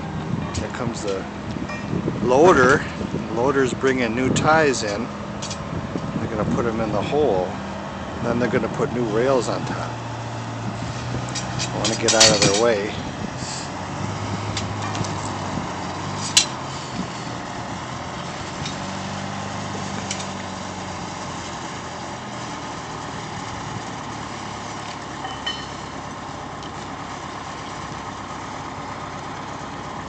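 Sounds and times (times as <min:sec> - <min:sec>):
loader engine running: 0:00.0 - 0:30.0.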